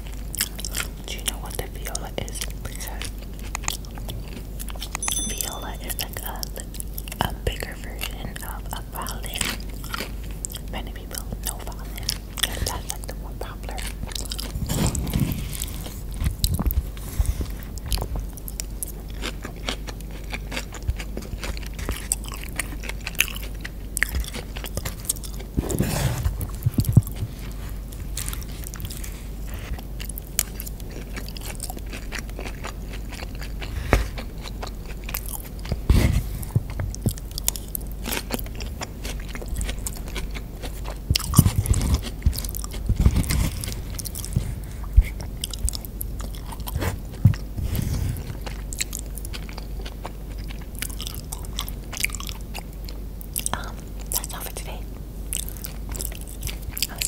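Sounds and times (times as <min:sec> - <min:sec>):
close chewing: 0:00.0 - 0:54.6, 0:55.3 - 0:57.0.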